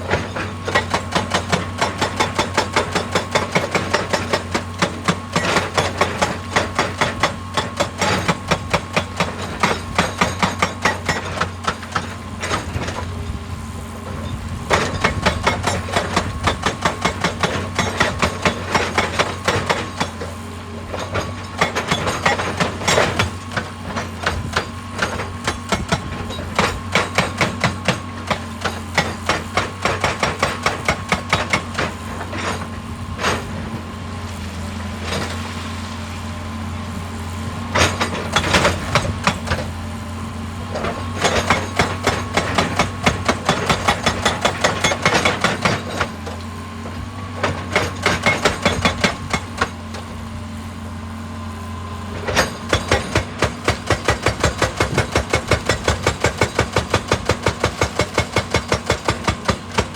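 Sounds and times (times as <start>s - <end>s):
diesel engine running: 0.0s - 59.9s
hydraulic breaker hammering rock: 0.0s - 59.9s.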